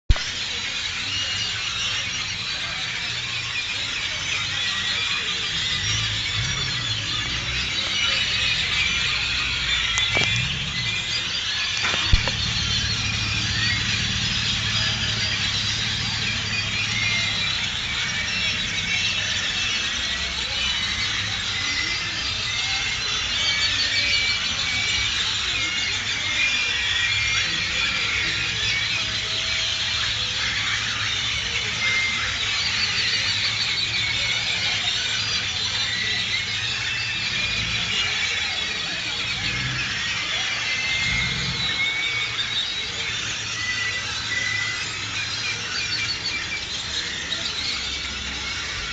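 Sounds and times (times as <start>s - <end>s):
birds chirping and chattering: 0.1s - 48.9s
low hum of traffic: 0.1s - 48.9s.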